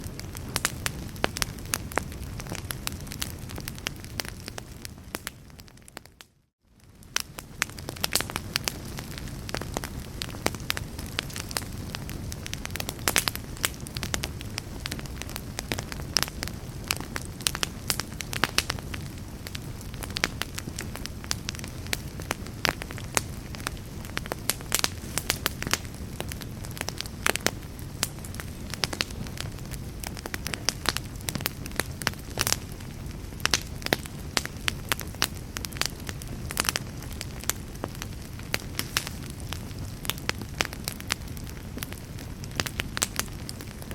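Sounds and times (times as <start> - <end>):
fire burning rumble: 0.0 - 43.9
logs crackling and popping: 0.0 - 43.9.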